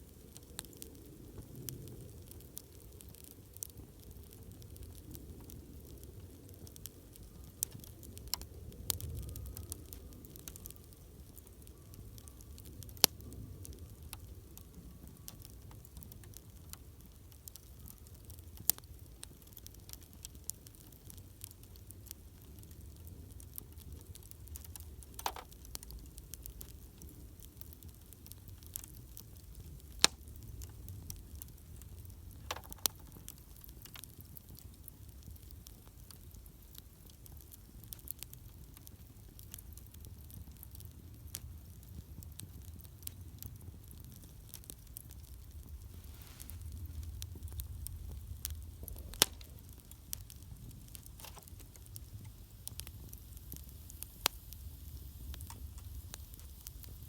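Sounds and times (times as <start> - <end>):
burning wood crackling and popping: 0.0 - 57.0
campfire rumble: 0.0 - 57.0.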